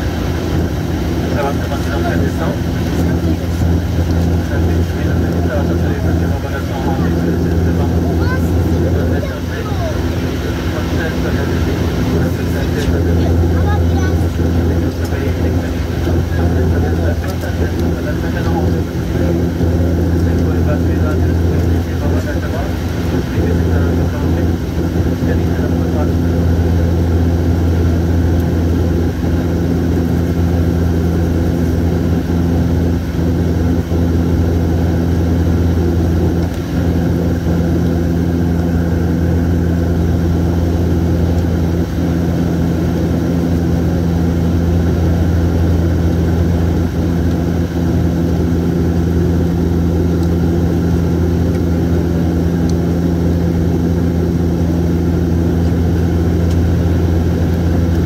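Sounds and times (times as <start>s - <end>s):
turboprop engine drone in cabin: 0.0s - 58.0s.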